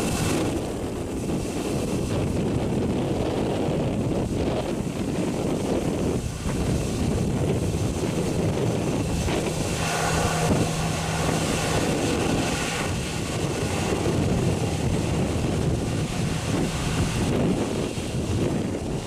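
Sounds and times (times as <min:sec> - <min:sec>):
jet engines rumbling with whine: 0:00.0 - 0:19.0
wind buffeting microphone: 0:00.0 - 0:19.0.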